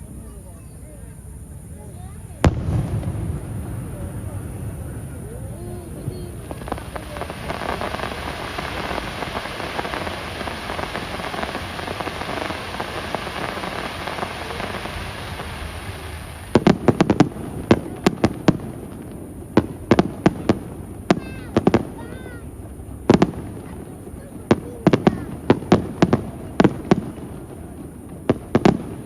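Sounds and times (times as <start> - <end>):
steady noisy din: 0.0 - 29.0
fireworks bangs and cracks: 1.6 - 29.0.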